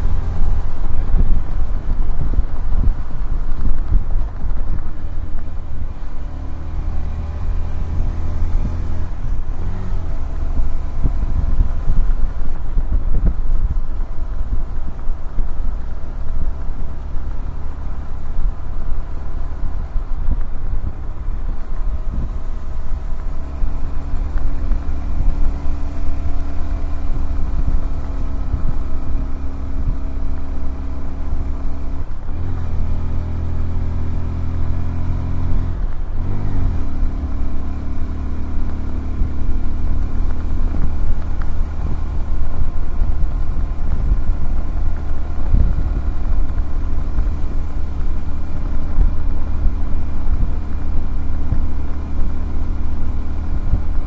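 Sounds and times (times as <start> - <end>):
motorcycle engine running: 0.0 - 54.0
wind rumbling on microphone: 0.0 - 54.0.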